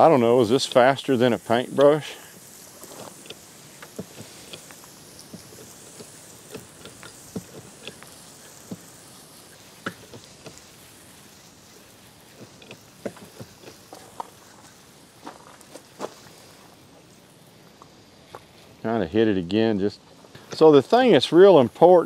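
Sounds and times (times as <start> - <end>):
sprayer hissing: 0.0 - 22.0.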